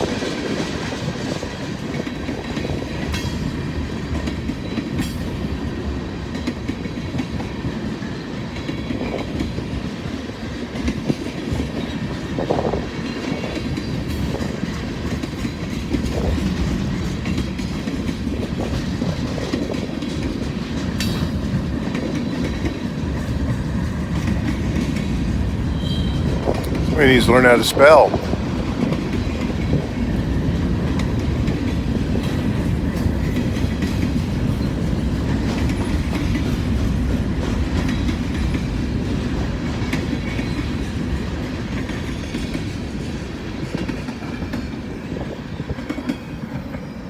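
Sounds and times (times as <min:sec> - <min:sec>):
freight train rolling past: 0:00.0 - 0:47.0.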